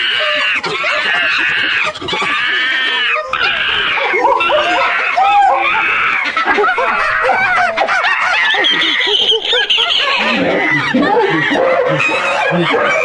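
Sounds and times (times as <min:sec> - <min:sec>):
chorus of animals calling: 0:00.0 - 0:13.0.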